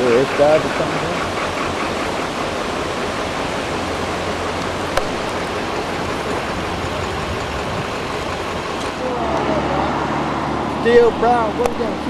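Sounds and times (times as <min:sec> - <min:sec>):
creek rushing over boulders: 0:00.0 - 0:12.0.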